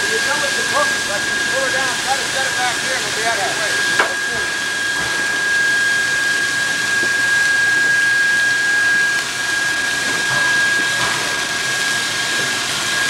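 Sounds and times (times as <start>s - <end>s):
steam venting hiss: 0.0s - 13.0s.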